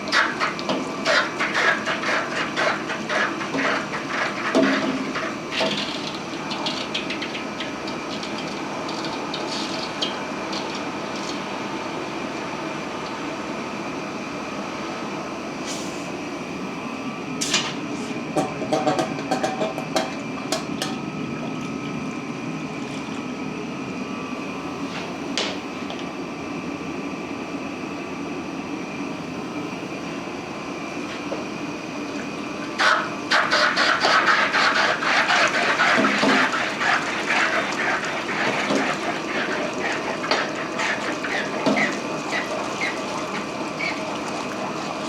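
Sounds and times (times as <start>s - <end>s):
gas forge and pump running: 0.0s - 45.0s.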